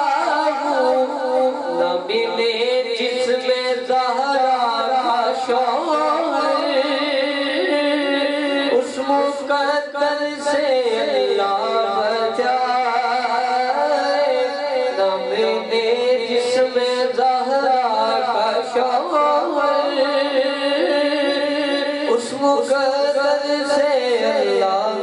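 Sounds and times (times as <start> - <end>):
man singing devotional poem: 0.0 - 25.0.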